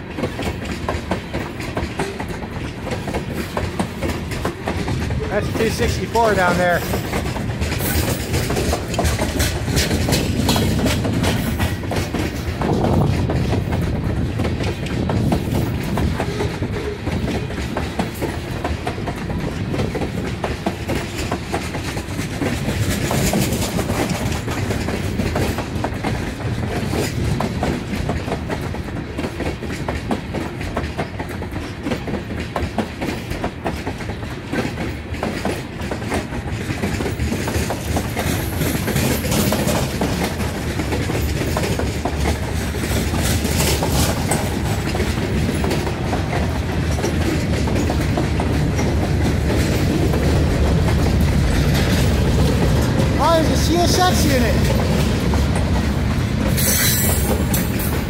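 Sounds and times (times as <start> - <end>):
freight train rumbling past: 0.0 - 58.0
train wheels clickety-clack: 0.0 - 58.0.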